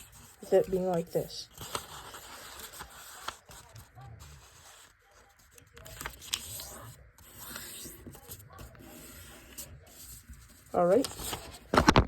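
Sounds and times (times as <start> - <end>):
sharp paper crackles: 0.0 - 8.8, 10.1 - 12.0
paper rustling and crinkling: 0.0 - 12.0.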